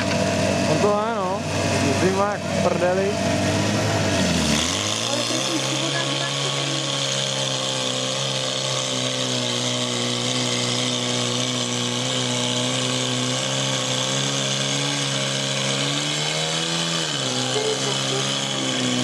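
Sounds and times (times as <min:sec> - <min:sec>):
pump engine running at high revs: 0:00.0 - 0:19.0.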